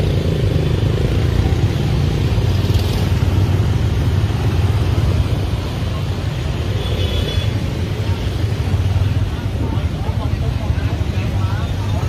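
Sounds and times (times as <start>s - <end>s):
motorbike engines rumbling: 0.0s - 12.0s
street noise: 0.0s - 12.0s.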